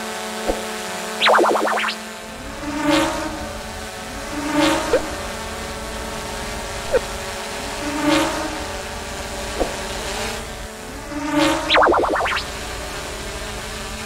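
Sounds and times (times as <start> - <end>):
drone propellers buzzing: 0.2 - 14.0.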